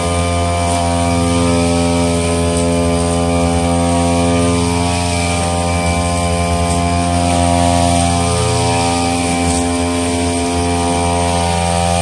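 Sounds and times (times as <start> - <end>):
brush cutter engine droning: 0.0 - 12.0.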